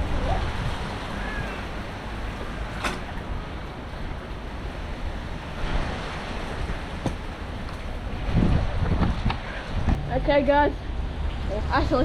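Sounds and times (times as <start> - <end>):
rain: 0.0 - 12.0
wind buffeting microphone: 0.0 - 12.0.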